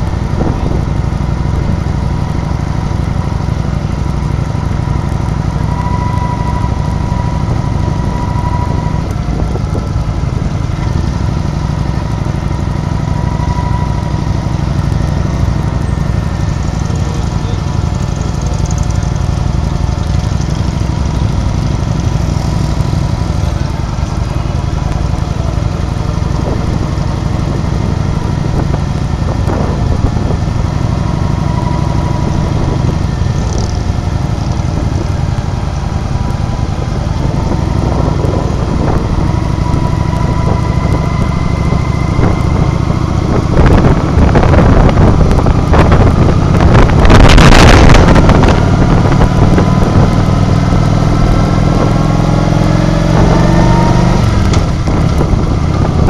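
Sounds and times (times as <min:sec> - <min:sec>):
rushing noise: 0:00.0 - 0:56.0
vehicle engine running: 0:00.0 - 0:56.0.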